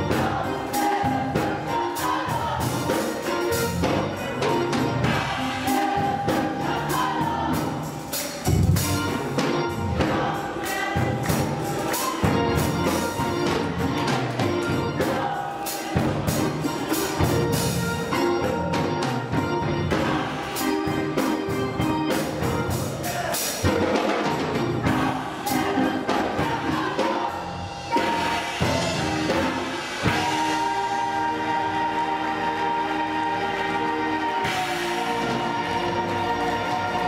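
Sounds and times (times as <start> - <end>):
gospel choir singing: 0.0 - 37.0
percussion beat: 0.0 - 37.0.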